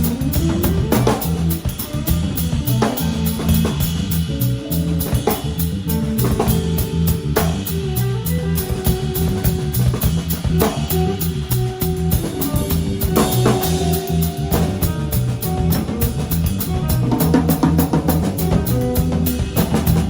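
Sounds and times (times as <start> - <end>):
bass guitar: 0.0 - 20.0
drum kit beat: 0.0 - 20.0
guitar: 0.0 - 20.0.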